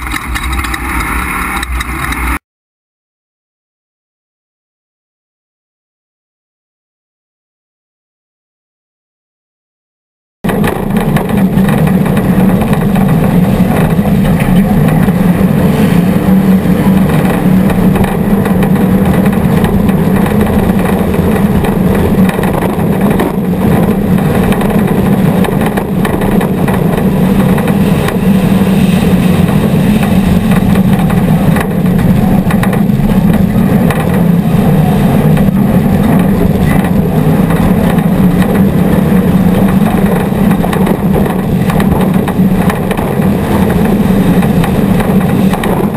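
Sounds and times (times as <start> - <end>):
race vehicle engines running hard: 0.0 - 2.4, 10.5 - 45.9.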